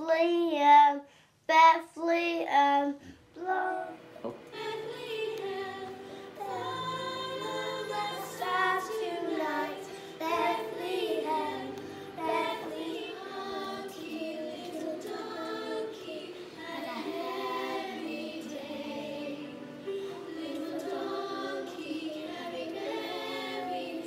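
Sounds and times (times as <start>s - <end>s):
children singing: 3.4s - 24.0s
instrumental accompaniment: 3.4s - 24.0s.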